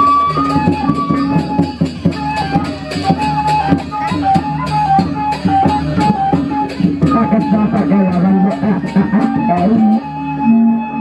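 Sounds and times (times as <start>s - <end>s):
fast drum and cymbal strikes: 0.0s - 10.1s
flute melody: 0.0s - 11.0s.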